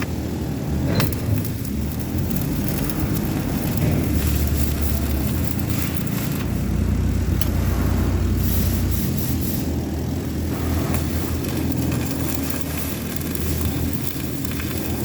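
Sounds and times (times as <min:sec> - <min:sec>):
welding arc crackling: 0:00.0 - 0:15.0
welding machine hum: 0:00.0 - 0:15.0.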